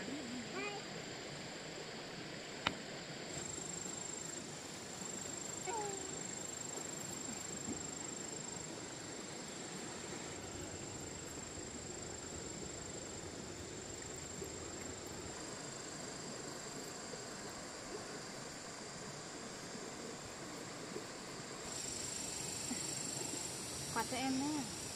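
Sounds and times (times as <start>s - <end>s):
insects chirring high-pitched: 0.0s - 24.9s
outdoor hiss: 0.0s - 24.9s
lower-pitched insect chirring: 3.3s - 20.3s, 21.1s - 24.9s.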